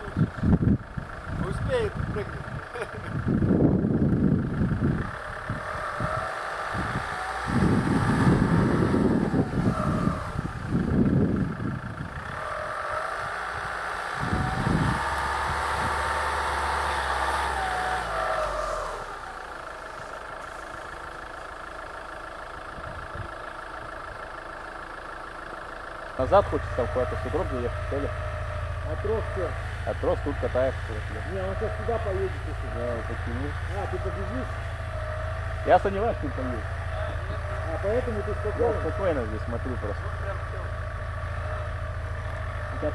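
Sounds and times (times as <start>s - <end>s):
suv engine revving: 0.0s - 42.9s.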